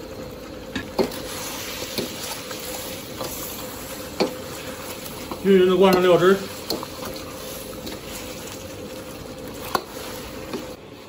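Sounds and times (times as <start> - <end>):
glaze bubbling and sizzling in wok: 0.0 - 11.0.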